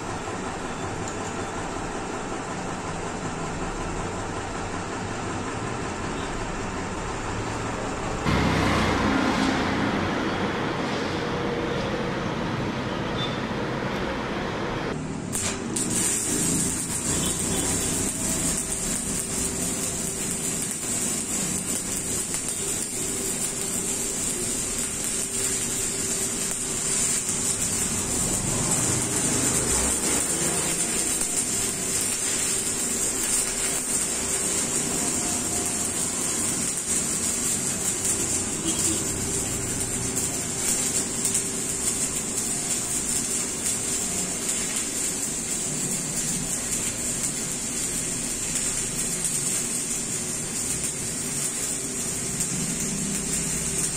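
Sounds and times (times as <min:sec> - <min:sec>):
welding arc sizzling: 0:00.0 - 0:53.9.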